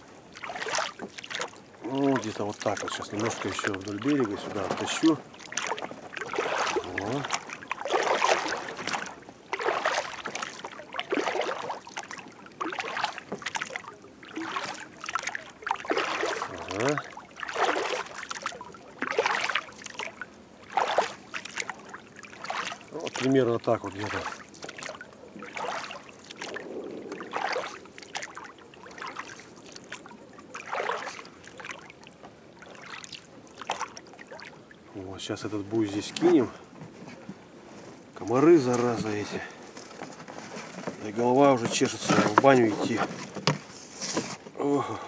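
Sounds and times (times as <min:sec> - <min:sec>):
oars splashing through water: 0:00.0 - 0:45.0.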